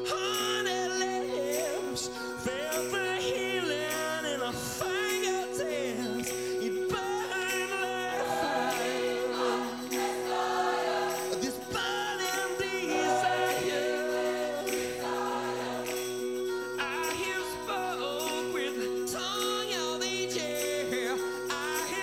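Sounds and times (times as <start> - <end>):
man singing lead: 0.0 - 15.9, 16.7 - 22.0
gospel choir singing: 0.8 - 22.0.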